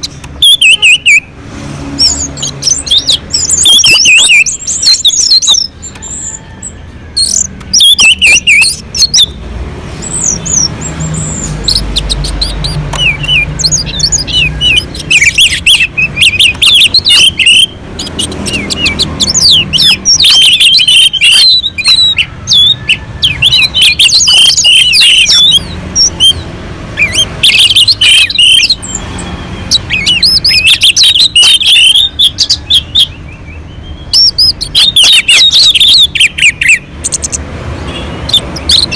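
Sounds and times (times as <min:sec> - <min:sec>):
thrush singing: 0:00.0 - 0:38.9.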